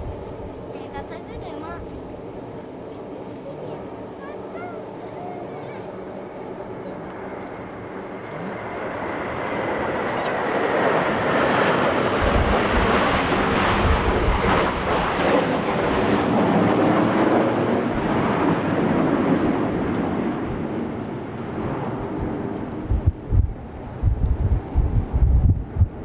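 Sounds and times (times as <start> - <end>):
jet aircraft roar: 0.0 - 26.0.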